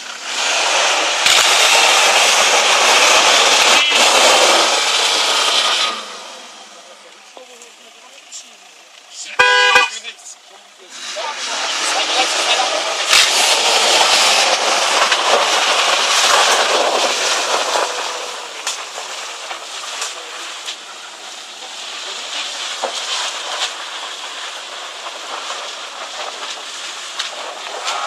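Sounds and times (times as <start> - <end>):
sharp cracks: 0.0 - 7.7, 11.4 - 28.0
vehicle engine and tyres rumbling: 0.0 - 28.0.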